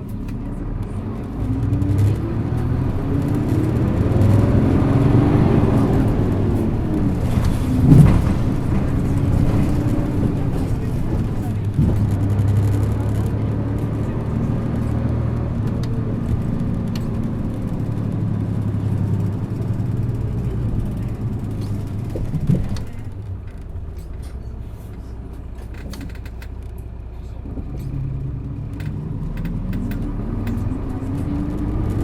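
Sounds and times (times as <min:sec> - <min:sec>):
bus diesel engine: 0:00.0 - 0:32.0.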